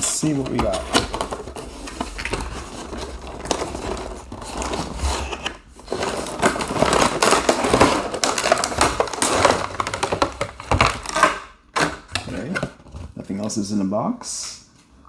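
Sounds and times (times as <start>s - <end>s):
cardboard packaging rustling: 0.0s - 13.4s.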